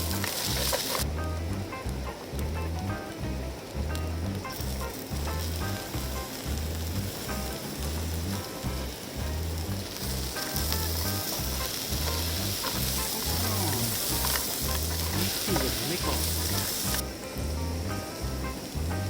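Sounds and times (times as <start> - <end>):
background music with bass beat: 0.0 - 19.0
noodles sizzling in a pan: 0.0 - 19.0.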